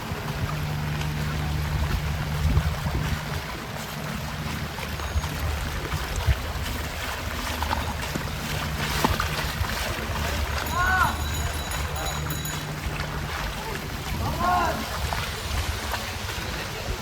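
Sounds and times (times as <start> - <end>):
floodwater sloshing and splashing: 0.0 - 17.0
low engine hum: 0.0 - 17.0.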